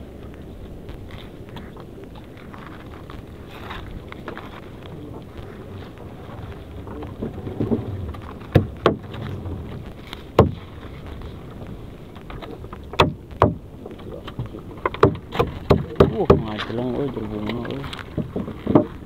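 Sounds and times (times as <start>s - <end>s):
low background noise: 0.0s - 19.0s
sharp clicks and knocks: 0.9s - 19.0s.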